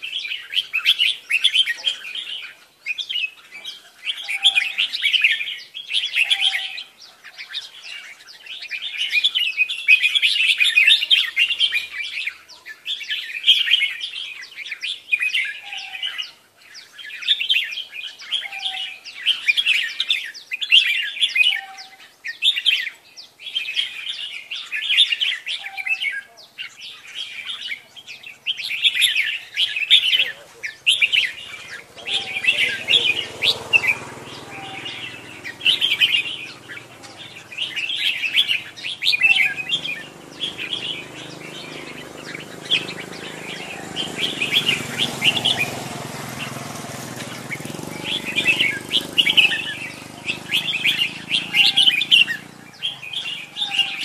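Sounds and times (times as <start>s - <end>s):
birds singing warbled phrases: 0.0s - 54.0s.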